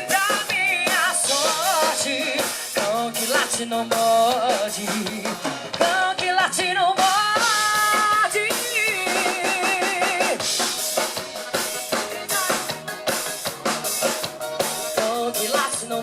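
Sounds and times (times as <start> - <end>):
drum kit: 0.0 - 16.0
live band playing: 0.0 - 16.0.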